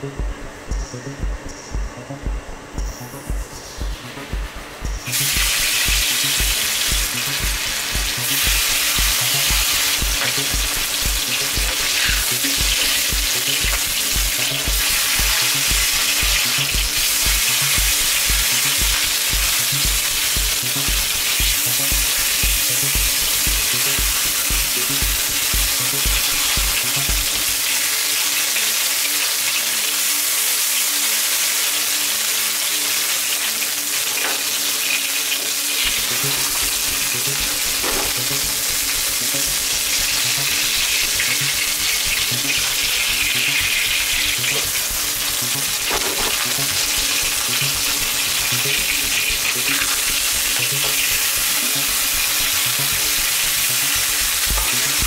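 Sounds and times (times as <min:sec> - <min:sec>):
background music beat: 0:00.0 - 0:29.6, 0:31.4 - 0:55.0
pork chops sizzling in oil: 0:05.1 - 0:55.0.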